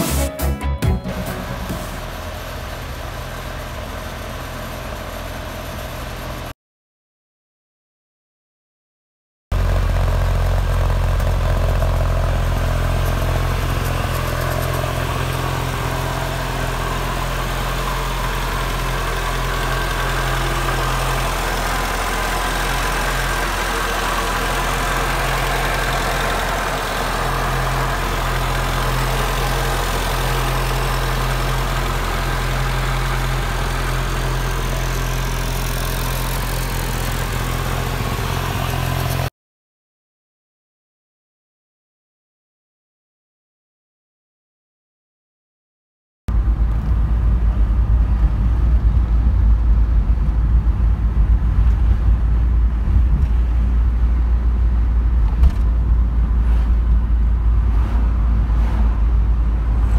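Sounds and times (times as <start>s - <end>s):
car engine idling: 0.9s - 6.5s, 9.6s - 39.3s, 46.3s - 59.9s.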